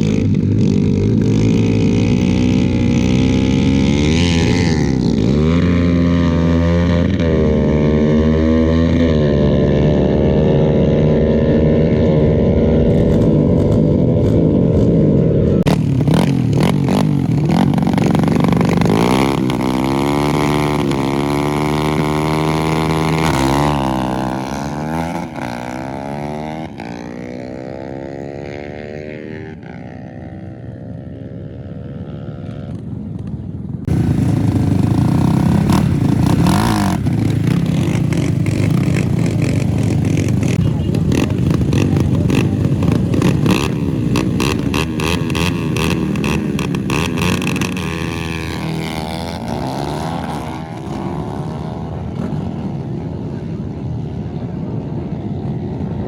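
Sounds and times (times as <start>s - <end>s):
motorcycle accelerating through gears: 0.0s - 56.0s
motorcycle engines revving: 0.0s - 56.0s.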